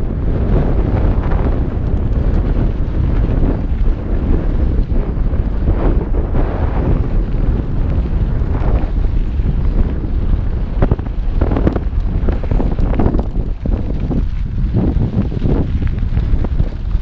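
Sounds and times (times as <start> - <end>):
bike knocking and clattering: 0.0 - 5.9, 6.9 - 17.0
wind buffeting microphone: 0.0 - 17.0.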